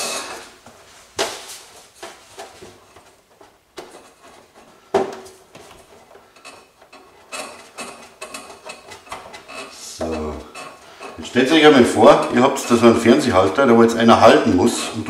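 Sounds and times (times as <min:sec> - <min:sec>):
cables clicking and rattling: 0:02.0 - 0:15.0.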